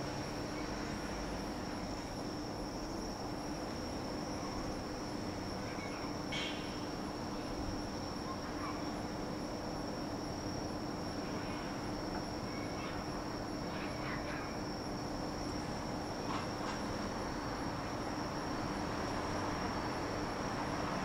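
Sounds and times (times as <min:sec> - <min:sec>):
crickets trilling: 0:00.0 - 0:21.0
faint town background noise: 0:00.0 - 0:21.0.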